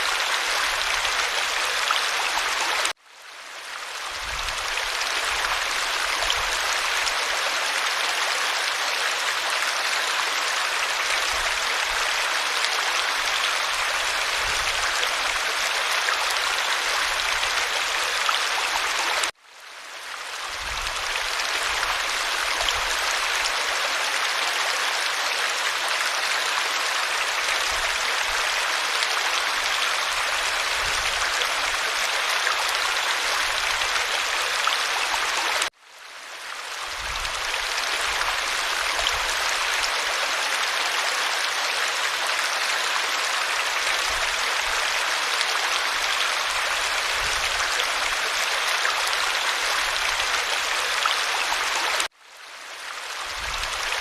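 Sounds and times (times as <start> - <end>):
creek water running over rocks: 0.0 - 54.0.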